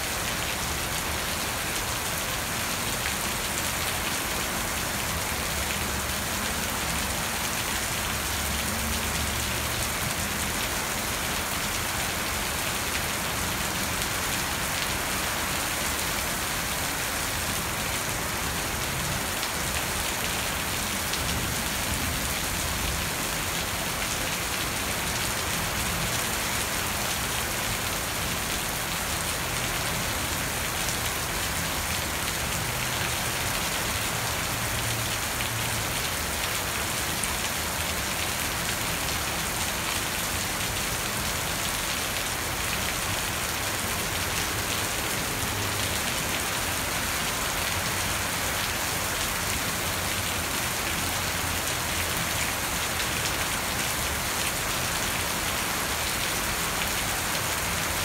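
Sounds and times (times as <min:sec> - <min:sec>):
steady rain on plants and pool: 0:00.0 - 0:58.0.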